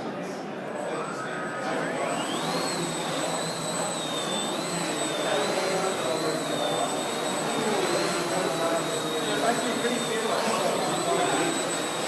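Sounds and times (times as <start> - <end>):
high motor whine: 0.6 - 12.0.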